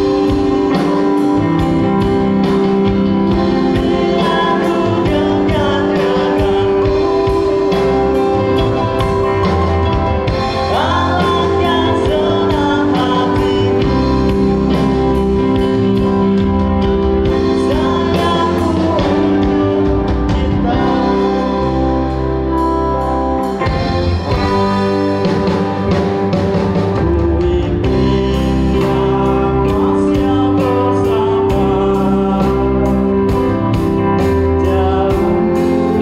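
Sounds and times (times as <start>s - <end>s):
live rock band playing: 0.0s - 36.0s
person singing: 0.0s - 36.0s.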